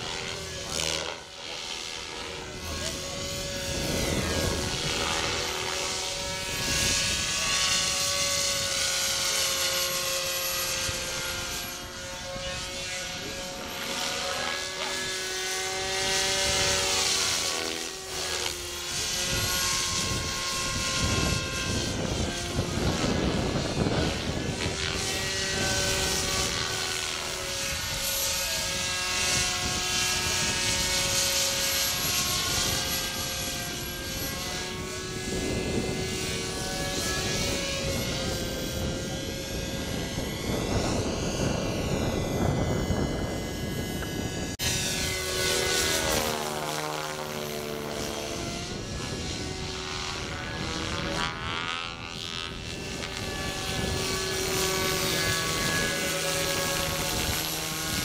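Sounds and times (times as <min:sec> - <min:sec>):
model helicopter rotor whine: 0:00.0 - 0:58.0.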